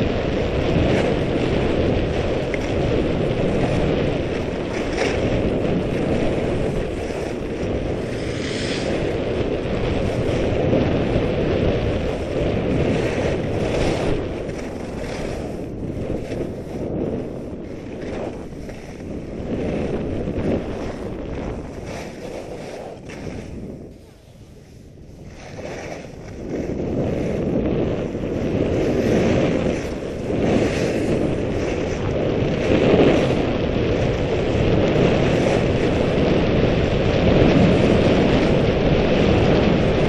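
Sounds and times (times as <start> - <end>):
skis scraping over snow: 0.0 - 40.0
wind rushing over microphone: 0.0 - 40.0.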